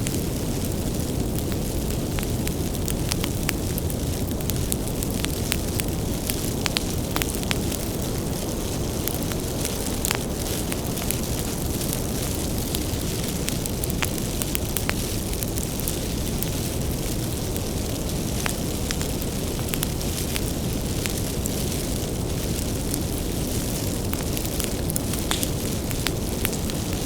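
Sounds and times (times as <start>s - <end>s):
burning wood crackling and popping: 0.0s - 27.0s
low rumble of flames: 0.0s - 27.0s.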